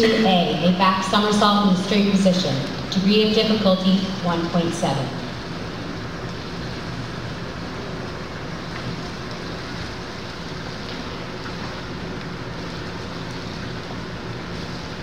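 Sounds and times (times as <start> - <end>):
indoor pool hall hum and hiss: 0.0 - 15.0.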